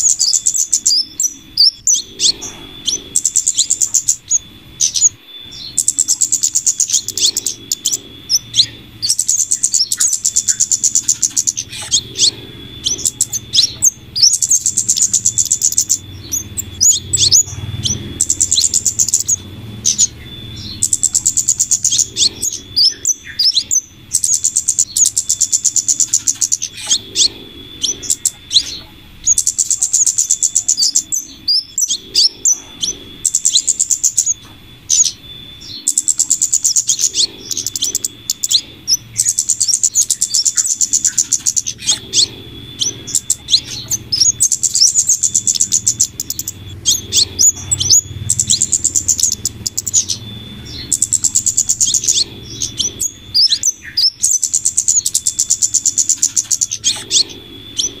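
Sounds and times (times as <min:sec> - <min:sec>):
high-pitched ticking bird trills: 0:00.0 - 0:58.0
sharp bird chirps: 0:00.0 - 0:58.0.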